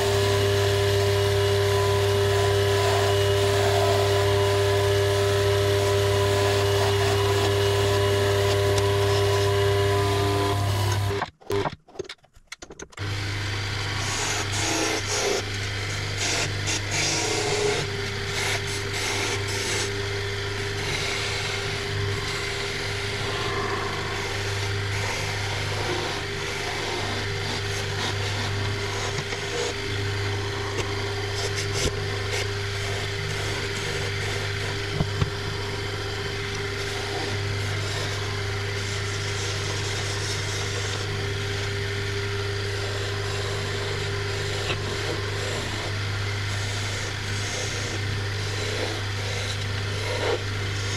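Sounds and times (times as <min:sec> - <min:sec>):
chisel shaving wood hiss: 0:00.0 - 0:11.2, 0:13.0 - 0:50.9
wood lathe humming and whining: 0:00.0 - 0:11.6, 0:13.0 - 0:50.9.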